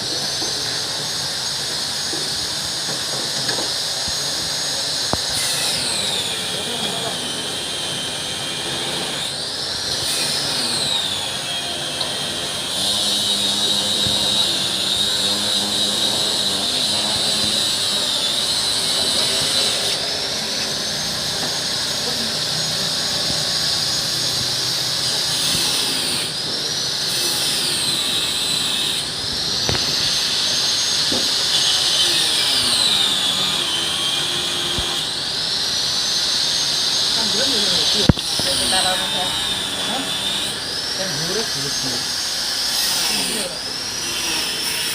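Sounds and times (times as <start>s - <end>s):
cutting machine motor whine: 0.0s - 44.9s.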